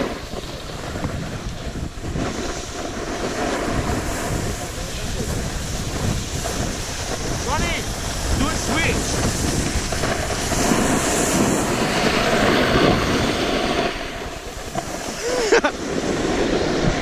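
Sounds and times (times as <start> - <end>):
skis sliding over snow: 0.0 - 17.0
wind rushing over microphone: 0.0 - 17.0.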